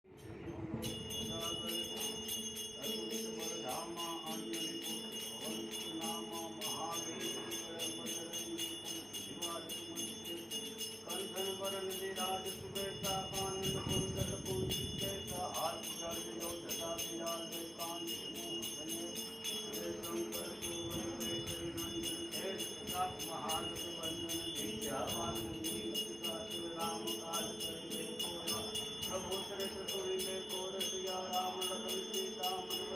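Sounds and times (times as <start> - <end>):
bells ringing fast: 0.2 - 32.9.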